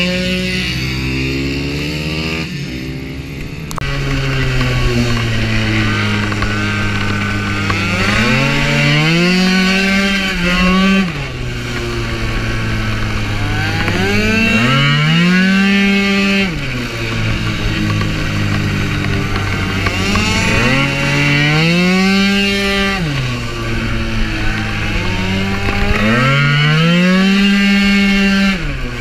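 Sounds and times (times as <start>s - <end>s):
scooter engine revving: 0.0s - 29.0s
scooters passing on track: 0.0s - 29.0s.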